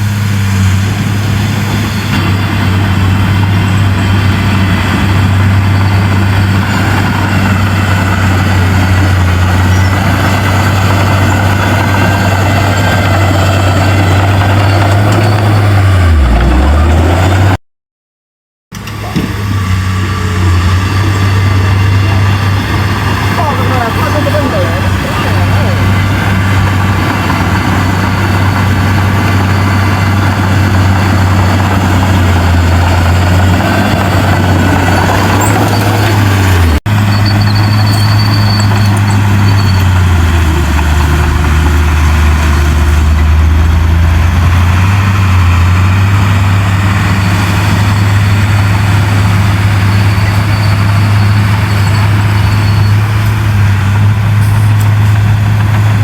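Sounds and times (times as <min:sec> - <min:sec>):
heavy diesel engine droning: 0:00.0 - 0:17.6, 0:18.7 - 0:56.0.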